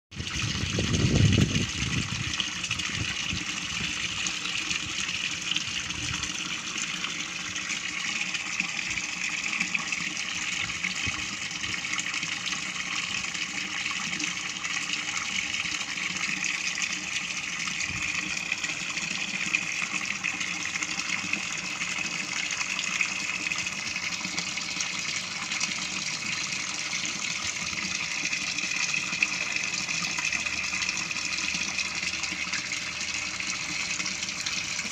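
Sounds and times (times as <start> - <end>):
water pouring into fish tank: 0.1 - 34.9.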